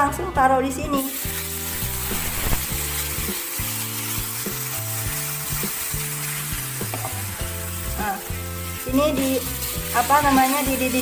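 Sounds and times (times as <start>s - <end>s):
background music: 0.0s - 11.0s
coconut milk sizzling in wok: 0.8s - 11.0s.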